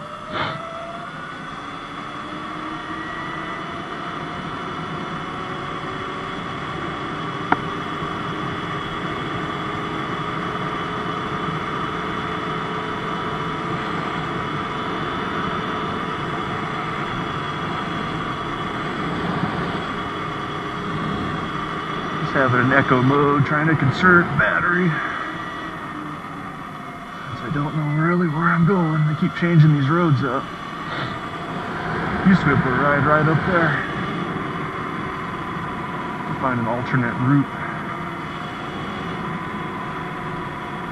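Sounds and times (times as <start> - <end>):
electric dirt bike motor whine: 0.0 - 40.9.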